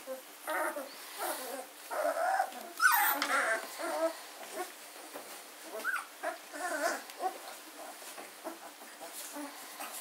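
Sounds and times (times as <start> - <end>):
puppies whimpering and squealing: 0.0 - 10.0.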